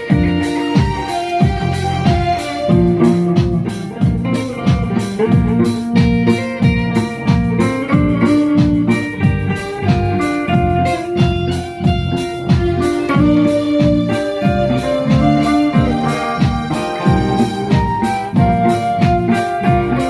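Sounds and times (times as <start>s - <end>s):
bass and drums: 0.0s - 20.0s
guitar playing: 0.0s - 20.0s.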